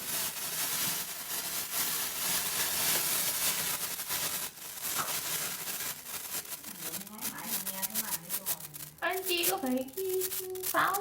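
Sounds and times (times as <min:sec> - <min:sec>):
smoke mixture hissing and crackling: 0:00.0 - 0:11.0.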